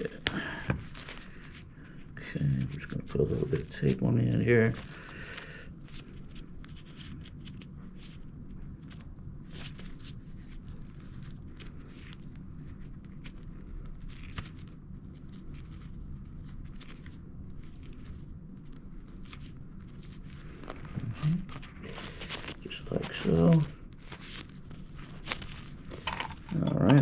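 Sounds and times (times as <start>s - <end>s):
steady low hum: 0.0s - 27.0s
tape crackling: 4.7s - 27.0s.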